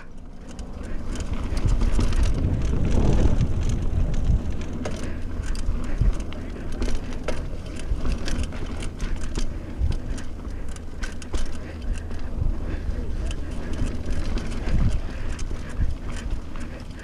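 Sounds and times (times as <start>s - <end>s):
bike clicks and rattles: 0.0s - 17.0s
mountain bike rolling on dirt: 0.0s - 17.0s
wind rumbling on microphone: 0.0s - 17.0s.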